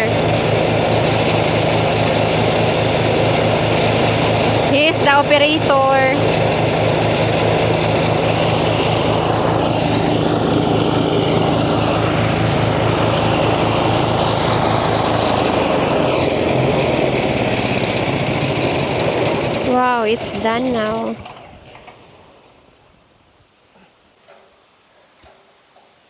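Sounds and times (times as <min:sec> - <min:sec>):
small engine pulsing: 0:00.0 - 0:24.2.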